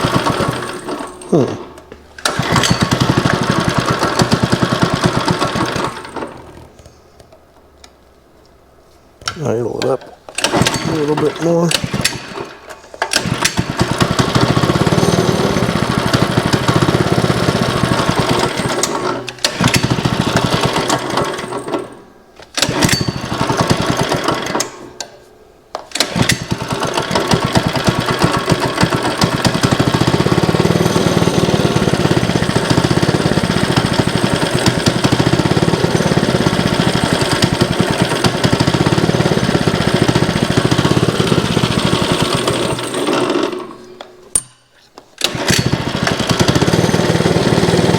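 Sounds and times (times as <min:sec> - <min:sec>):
small go-kart engine running: 0:00.0 - 0:06.8, 0:10.4 - 0:22.0, 0:22.6 - 0:24.8, 0:25.9 - 0:44.1, 0:45.2 - 0:47.9.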